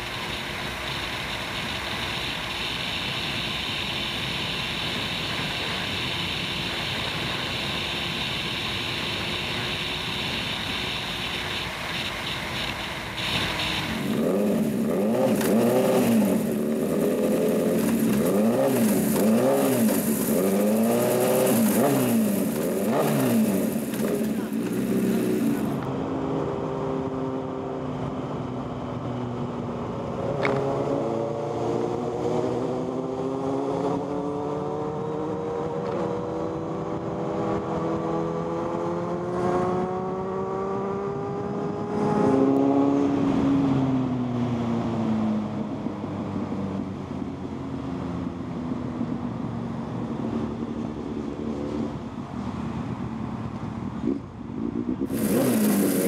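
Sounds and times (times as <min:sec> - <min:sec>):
motorcycle engine accelerating: 0:00.0 - 0:46.9, 0:49.0 - 0:56.0.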